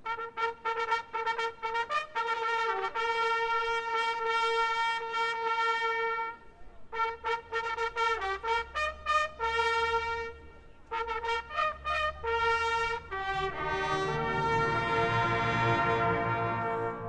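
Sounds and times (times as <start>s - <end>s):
trumpet signal: 0.0s - 6.4s, 7.0s - 17.0s
brass band sustained chord: 0.0s - 17.0s.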